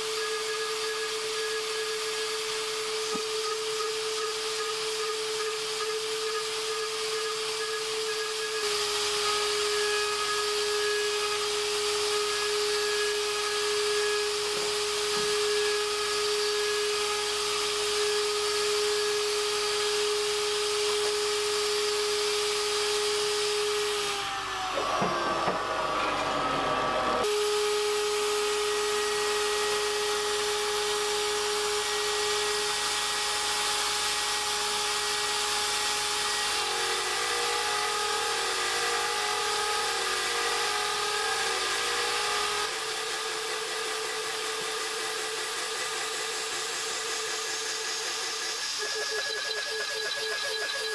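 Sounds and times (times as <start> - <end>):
router spindle whining: 0.0 - 50.9.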